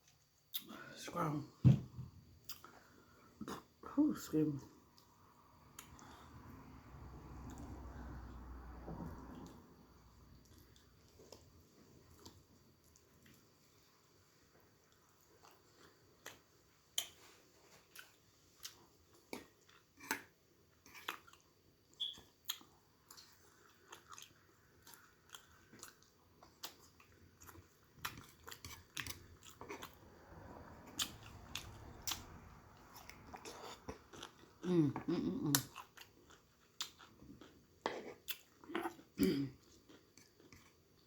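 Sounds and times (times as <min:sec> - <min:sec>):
person chewing food: 0:04.9 - 0:06.4, 0:07.4 - 0:41.0.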